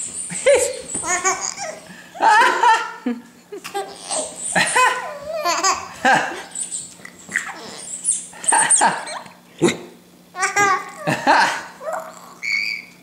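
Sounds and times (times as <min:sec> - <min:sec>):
baby laughing: 0:00.3 - 0:03.0, 0:03.6 - 0:09.4, 0:10.4 - 0:12.8.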